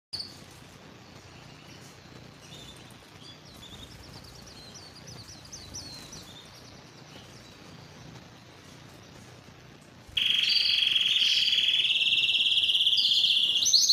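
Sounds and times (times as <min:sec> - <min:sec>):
canary singing: 0:00.2 - 0:13.9
steady background hiss: 0:00.2 - 0:13.9.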